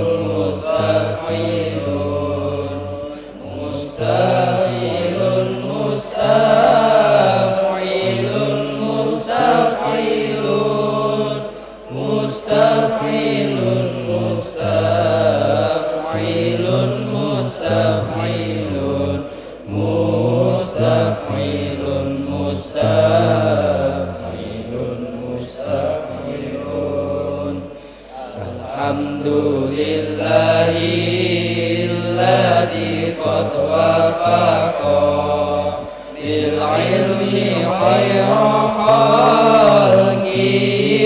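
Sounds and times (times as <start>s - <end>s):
men chanting in unison: 0.0s - 41.0s.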